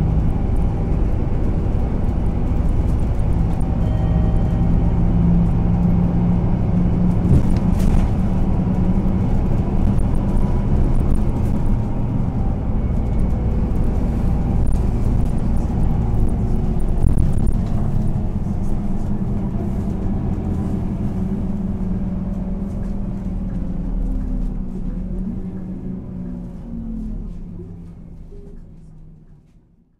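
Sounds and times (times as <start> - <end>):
bus diesel engine drone: 0.0 - 29.9.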